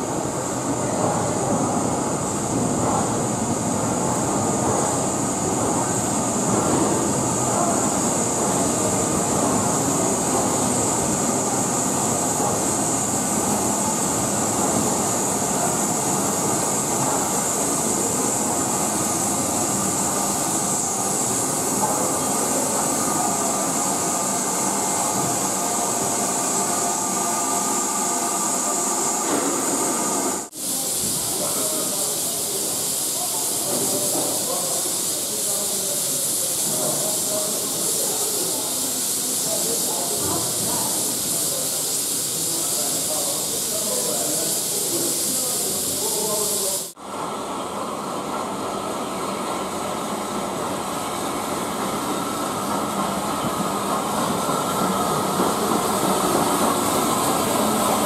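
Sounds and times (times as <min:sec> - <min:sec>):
train rumble: 0:00.0 - 0:46.7, 0:50.1 - 0:58.0
steam hissing: 0:00.0 - 0:58.0.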